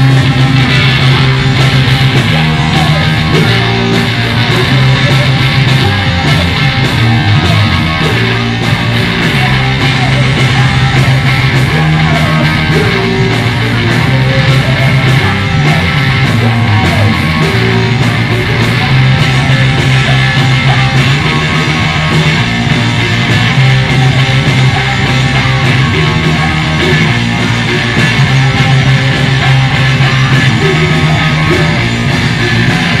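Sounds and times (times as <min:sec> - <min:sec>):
person singing: 0:00.0 - 0:33.0
punk rock band playing: 0:00.0 - 0:33.0.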